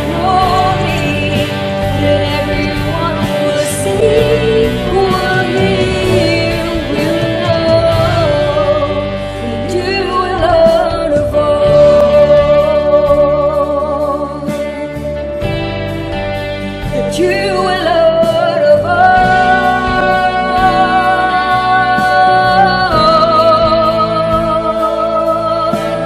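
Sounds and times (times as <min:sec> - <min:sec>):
worship song with guitar: 0:00.0 - 0:26.0.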